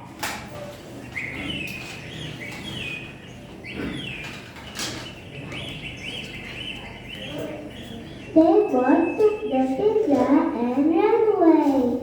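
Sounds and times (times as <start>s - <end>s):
bird chirping: 0.9s - 10.9s.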